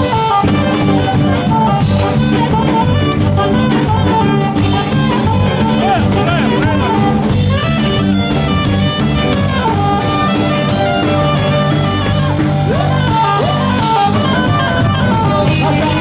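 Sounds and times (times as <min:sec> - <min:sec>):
drum kit: 0:00.0 - 0:16.0
electric guitar: 0:00.0 - 0:16.0
saxophone playing lead: 0:00.0 - 0:16.0.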